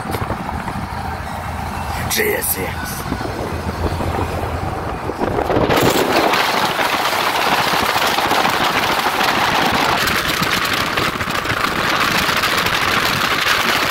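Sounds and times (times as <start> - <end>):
road noise: 0.0 - 13.9
wind rushing past car window: 0.0 - 13.9.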